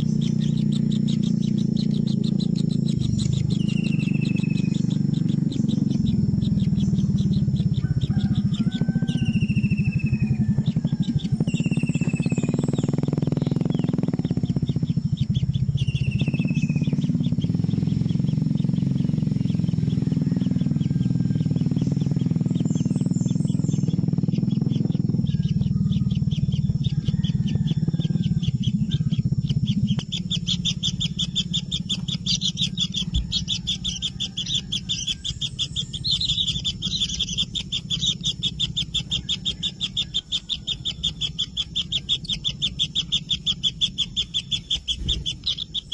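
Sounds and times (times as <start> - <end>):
low steady hum: 0.0 - 45.9
nestlings buzzing begging calls: 0.0 - 45.9.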